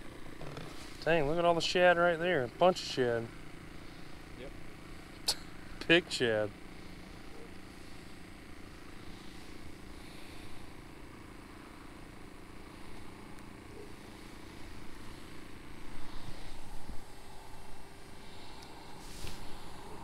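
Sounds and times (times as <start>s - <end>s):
drone propellers humming: 0.0s - 20.0s.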